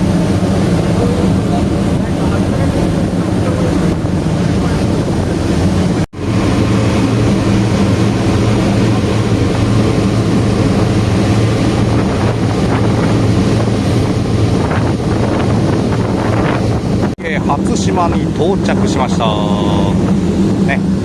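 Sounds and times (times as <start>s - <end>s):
ferry engine droning: 0.0s - 21.0s
water washing alongside: 0.0s - 21.0s
wind buffeting microphone: 0.0s - 21.0s.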